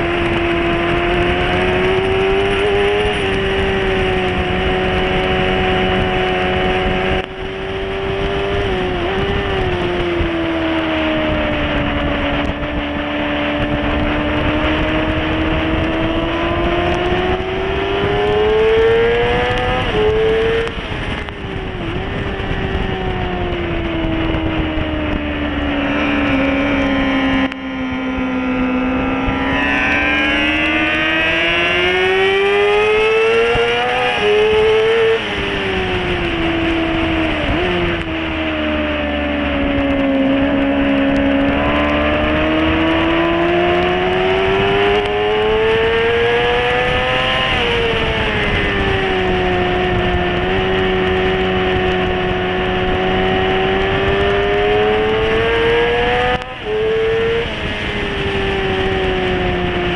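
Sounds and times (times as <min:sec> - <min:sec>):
motorcycle engine revving high: 0:00.0 - 0:59.9
wind rush: 0:00.0 - 0:59.9.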